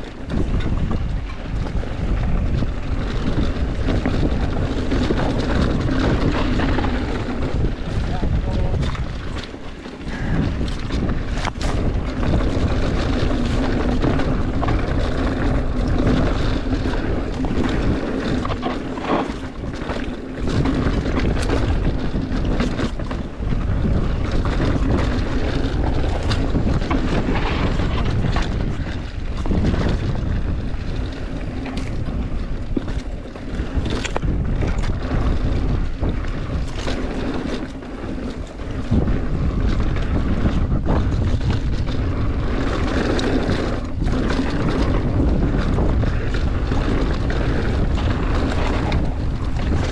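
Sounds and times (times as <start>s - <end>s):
bike knocking and rattling: 0.0s - 49.9s
bike tyre rumble: 0.0s - 49.9s
wind buffeting microphone: 0.0s - 49.9s.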